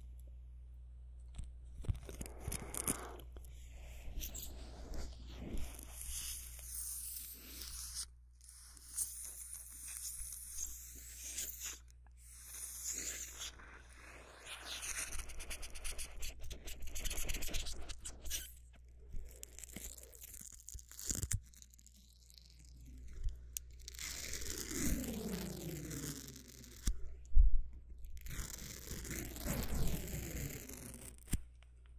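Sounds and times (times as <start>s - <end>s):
scratchy tearing and crackling: 1.7s - 27.2s, 27.9s - 31.9s.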